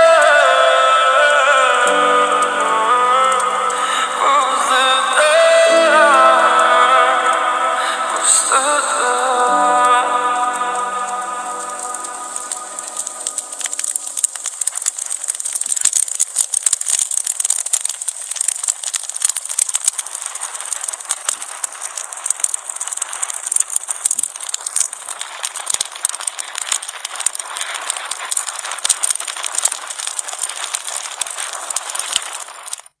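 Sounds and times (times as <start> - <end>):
fire crackling: 0.0 - 33.0.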